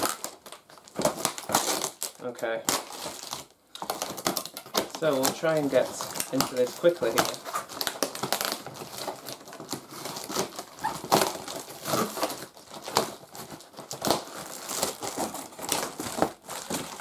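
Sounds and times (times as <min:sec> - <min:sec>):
packaging crinkling and tearing: 0:00.0 - 0:17.0.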